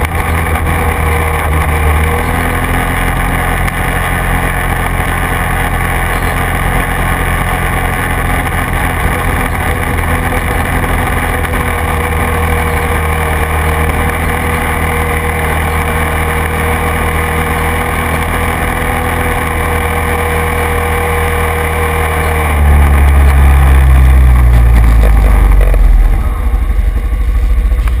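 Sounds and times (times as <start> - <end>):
quad engine running: 0.0 - 28.0.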